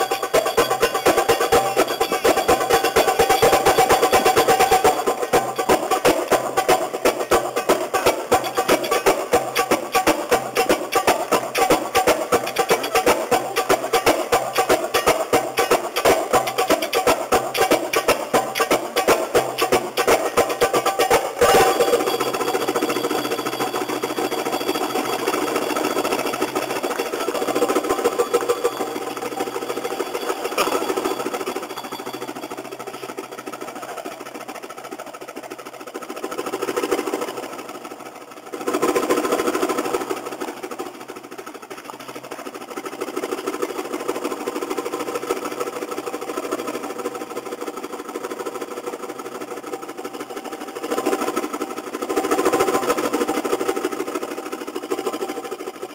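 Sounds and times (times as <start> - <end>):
fast percussion rolls: 0.0 - 55.9.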